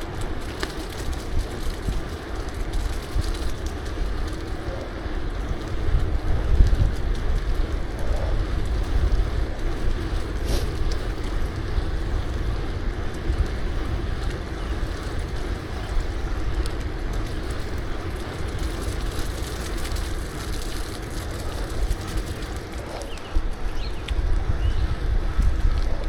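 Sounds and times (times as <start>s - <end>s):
tyre and road noise: 0.0s - 26.0s
wind buffeting microphone: 0.0s - 26.0s.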